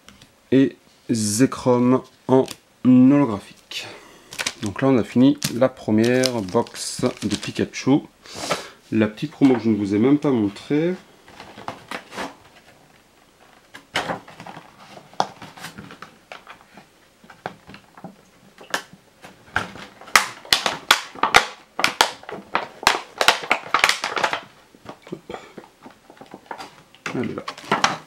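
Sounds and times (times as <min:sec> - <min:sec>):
plastic packaging crinkling: 0:03.4 - 0:08.6, 0:09.4 - 0:28.0.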